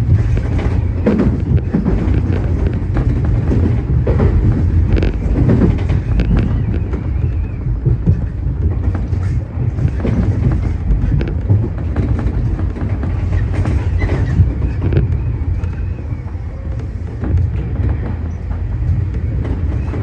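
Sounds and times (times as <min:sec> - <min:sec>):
electric train rumbling: 0:00.0 - 0:20.0
wheels clicking over rail joints: 0:00.0 - 0:20.0.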